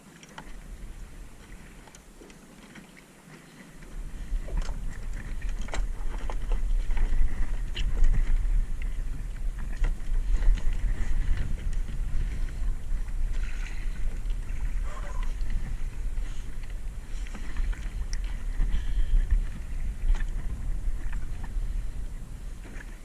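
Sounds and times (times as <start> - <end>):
wind rumble on microphone: 0.0 - 2.2, 3.8 - 23.0
water sloshing around a kayak: 0.0 - 23.0.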